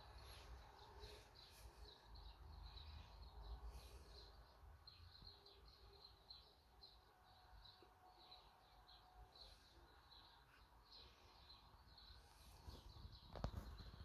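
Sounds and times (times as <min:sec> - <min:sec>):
faint high chirping: 0:00.0 - 0:14.0.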